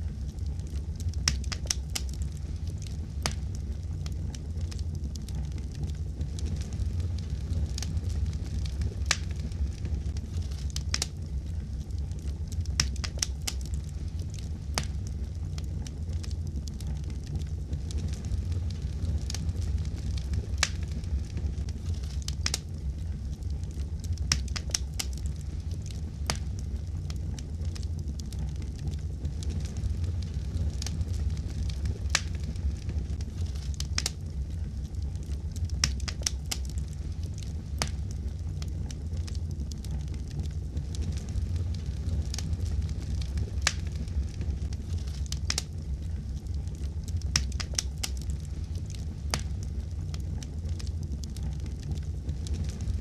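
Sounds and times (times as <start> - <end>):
fireplace fire crackling: 0.0 - 53.0.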